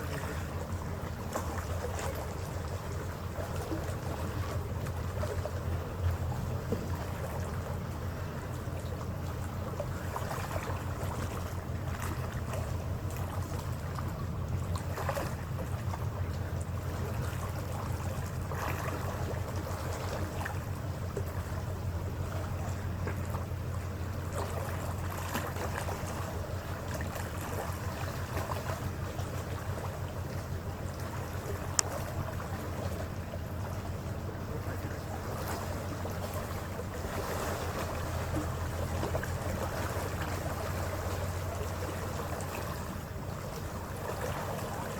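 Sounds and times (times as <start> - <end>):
ferry engines droning: 0.0 - 44.9
water washing: 0.0 - 44.9
wind: 0.0 - 44.9.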